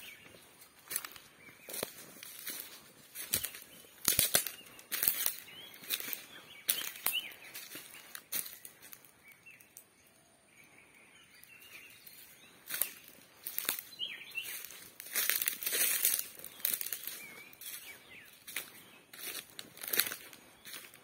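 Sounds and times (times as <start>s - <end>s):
footsteps crunching on dry leaves: 0.0s - 9.4s, 11.8s - 21.0s.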